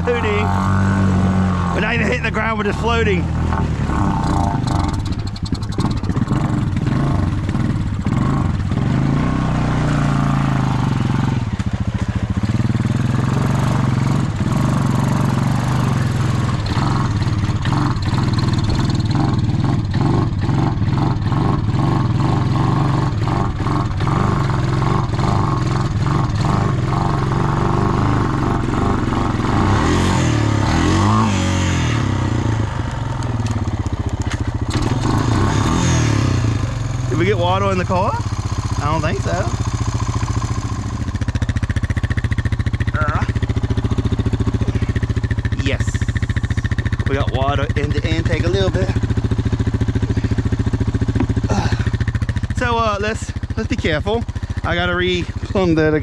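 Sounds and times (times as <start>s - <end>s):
atv engine running under throttle: 0.0s - 56.0s.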